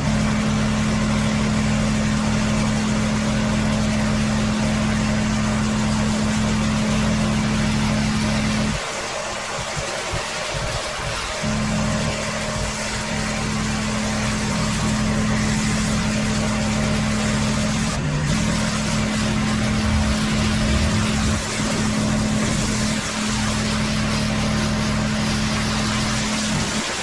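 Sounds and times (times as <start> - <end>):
pressure washer engine hum: 0.0 - 27.0
water jet hissing on concrete: 0.0 - 27.0.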